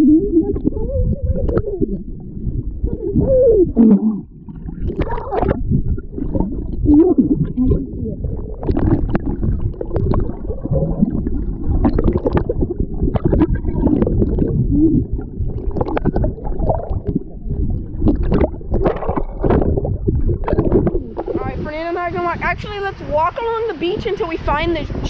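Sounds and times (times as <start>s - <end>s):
underwater churning and gurgling: 0.0s - 23.2s
water splashes: 0.0s - 25.0s.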